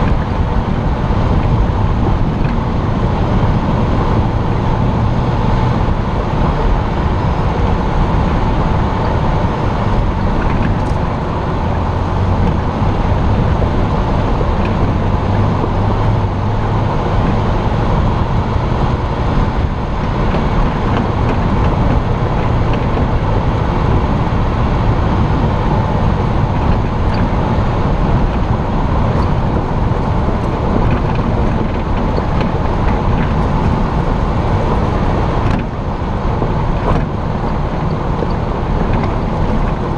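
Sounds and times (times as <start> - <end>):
engine and road noise: 0.0 - 39.9.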